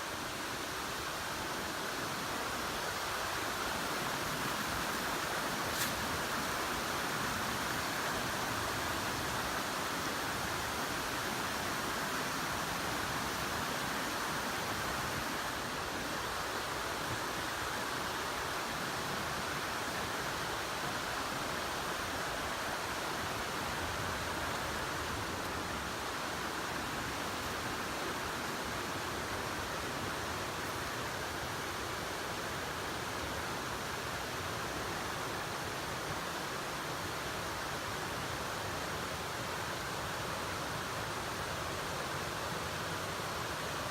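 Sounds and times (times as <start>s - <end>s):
waterfall rushing water: 0.0s - 43.9s.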